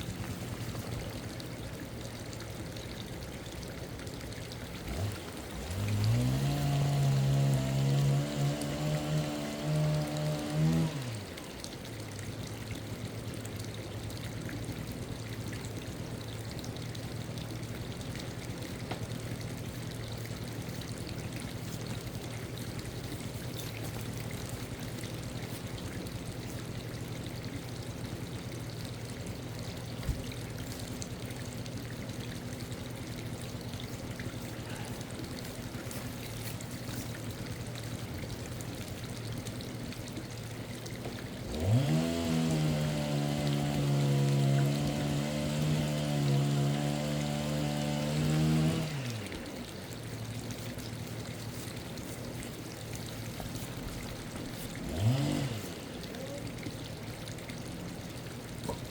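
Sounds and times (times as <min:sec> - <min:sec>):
running water trickling: 0:00.0 - 0:58.9.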